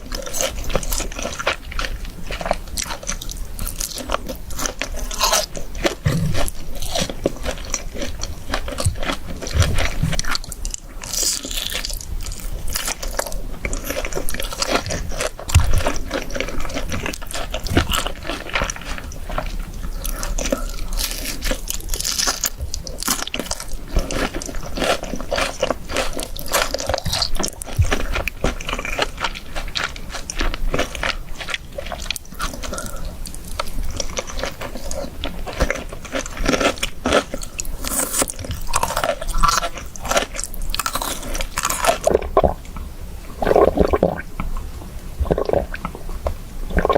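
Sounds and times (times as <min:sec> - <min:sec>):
crunchy chewing of fried food: 0:00.0 - 0:46.9.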